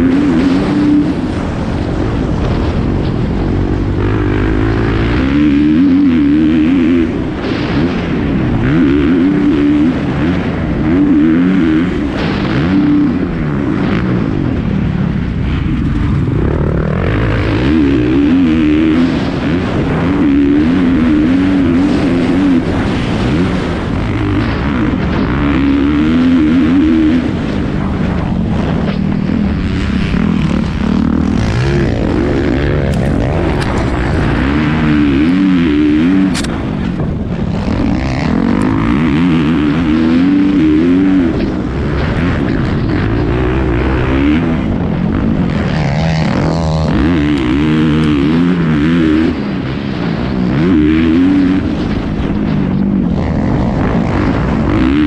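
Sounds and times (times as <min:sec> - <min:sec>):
dirt bike engine revving: 0:00.0 - 0:55.0
wind on microphone: 0:00.0 - 0:55.0.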